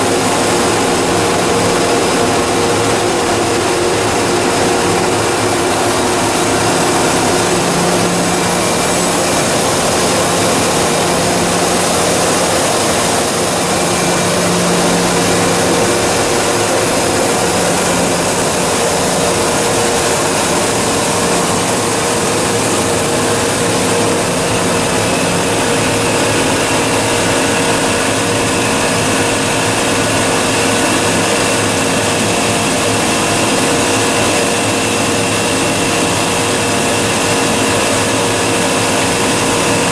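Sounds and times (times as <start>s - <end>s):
recycling machine humming: 0.0s - 39.9s.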